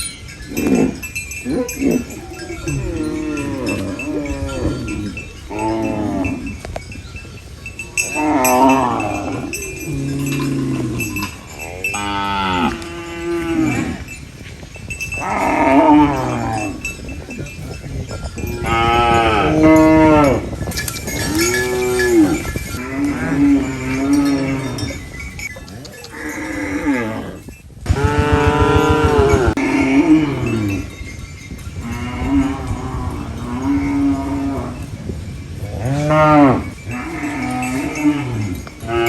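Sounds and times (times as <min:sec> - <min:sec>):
cows mooing: 0:00.0 - 0:06.9, 0:07.8 - 0:14.2, 0:15.0 - 0:31.1, 0:31.8 - 0:39.0.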